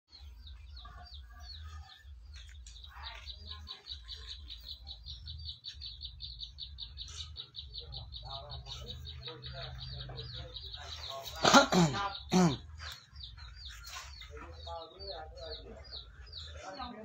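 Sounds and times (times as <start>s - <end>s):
small bird chirping: 0.1s - 17.0s.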